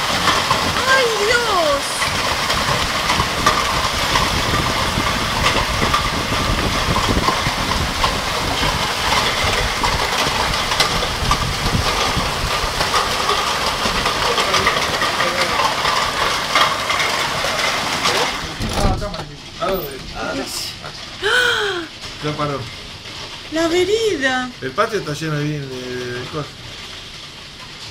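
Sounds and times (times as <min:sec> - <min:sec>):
heavy hail pelting: 0:00.0 - 0:27.9.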